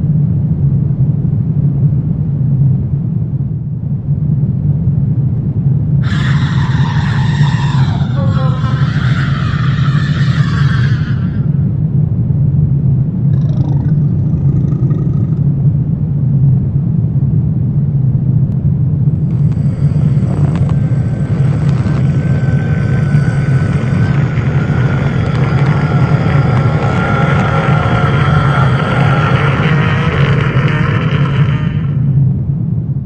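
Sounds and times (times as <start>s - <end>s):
deep rumbling drone: 0.0s - 33.0s.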